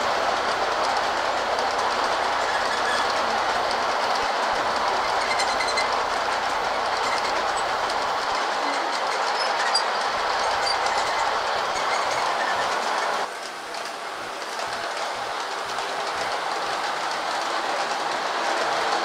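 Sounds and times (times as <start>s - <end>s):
model train wheels clattering: 0.0s - 19.0s.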